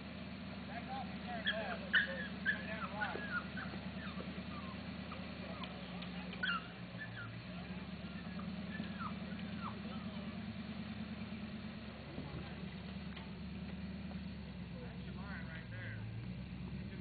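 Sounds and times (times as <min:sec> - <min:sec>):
vehicle engine running low: 0:00.0 - 0:17.0.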